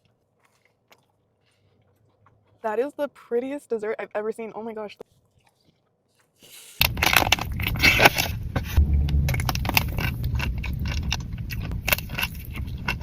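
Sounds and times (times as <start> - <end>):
crunchy chewing: 0.0 - 2.9, 5.0 - 13.0.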